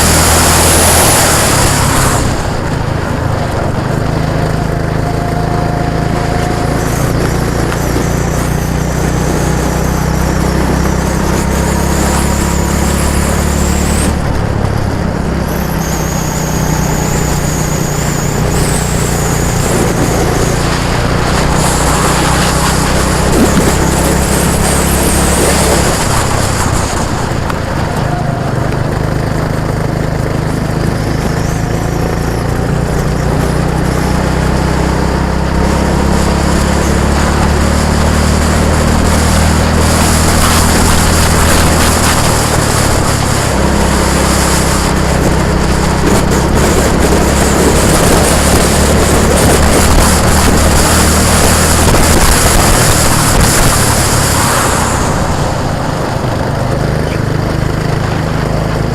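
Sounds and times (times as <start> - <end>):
road and wind noise: 0.0 - 58.9
vehicle engine running: 0.0 - 58.9.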